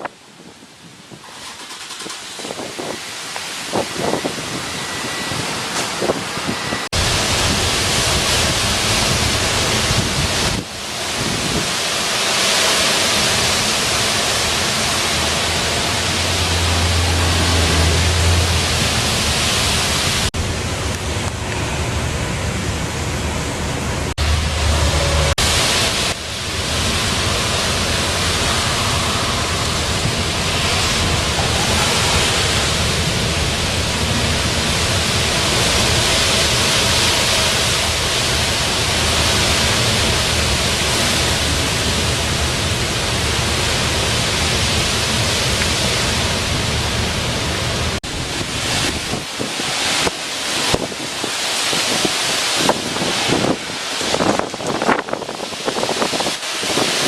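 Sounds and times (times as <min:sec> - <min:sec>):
wind buffeting microphone: 0:00.0 - 0:12.0, 0:13.4 - 0:57.0
driving rain: 0:00.0 - 0:57.0
wind gusting: 0:00.0 - 0:57.0.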